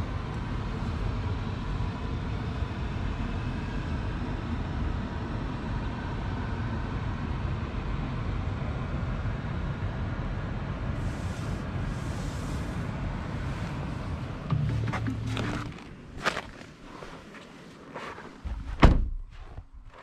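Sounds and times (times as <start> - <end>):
road rumble and wind noise: 0.0 - 20.0.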